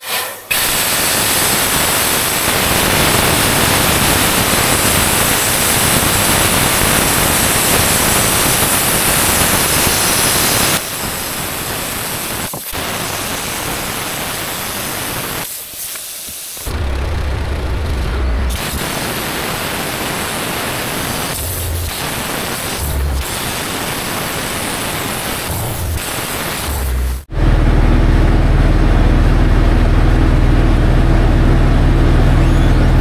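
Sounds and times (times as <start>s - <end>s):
cutting torch hissing: 0.0s - 27.3s.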